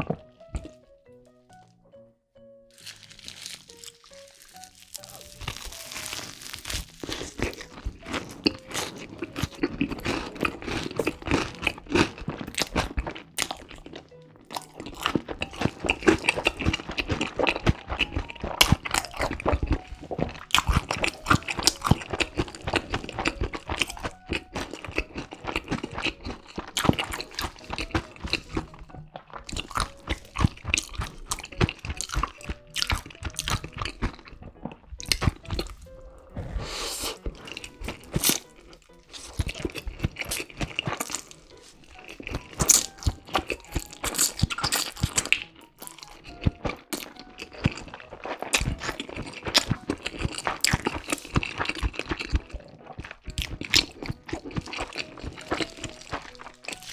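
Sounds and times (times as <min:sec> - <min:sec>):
crunching and chewing crispy food: 0:00.0 - 0:00.9, 0:02.7 - 0:56.9.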